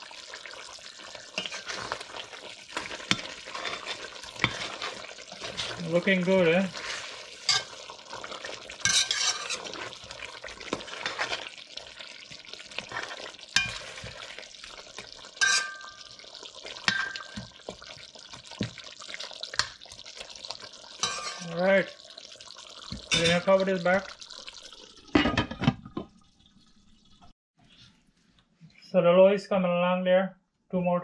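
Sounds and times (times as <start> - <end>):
curry sizzling in a pot: 0.0 - 27.3.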